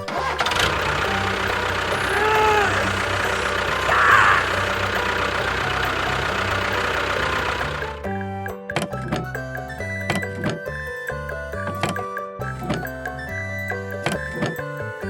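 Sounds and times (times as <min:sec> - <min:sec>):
small engine rumbling: 0:00.0 - 0:15.0.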